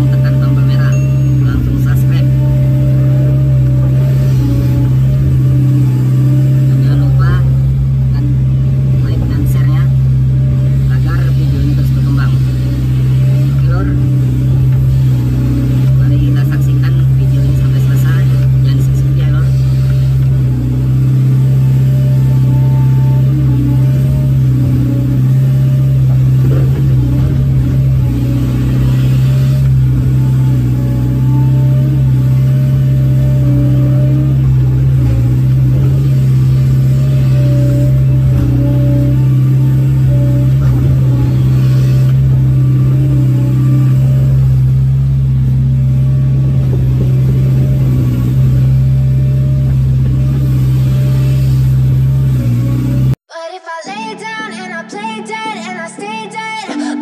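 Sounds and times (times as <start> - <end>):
excavator diesel engine running: 0.0 - 53.2.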